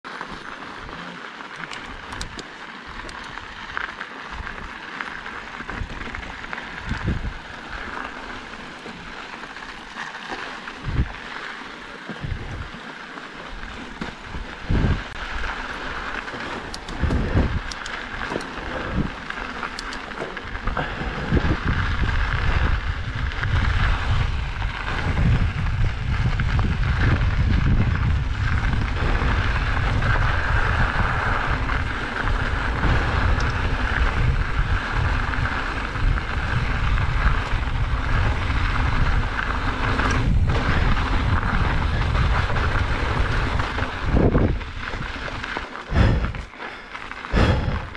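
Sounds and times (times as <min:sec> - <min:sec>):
bike tyres and frame rattling: 0:00.0 - 0:47.9
wind rumbling on microphone: 0:00.3 - 0:47.9.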